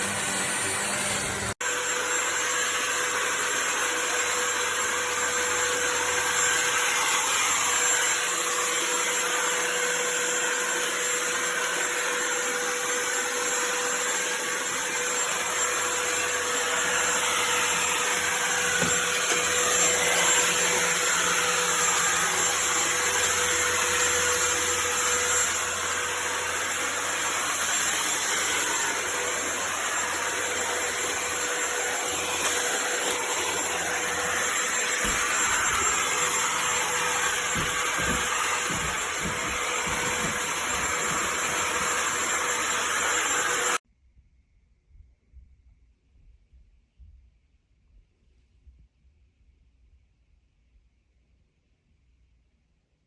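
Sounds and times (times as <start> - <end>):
stick vacuum running: 0.0 - 43.8.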